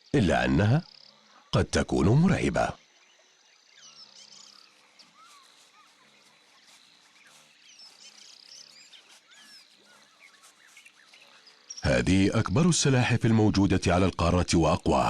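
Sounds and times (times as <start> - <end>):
bird chirps: 0.0 - 14.9.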